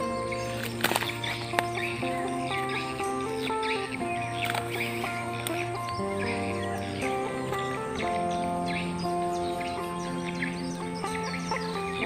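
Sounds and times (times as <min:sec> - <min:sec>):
background music of held notes: 0:00.0 - 0:12.0
bird chirps: 0:00.0 - 0:12.0.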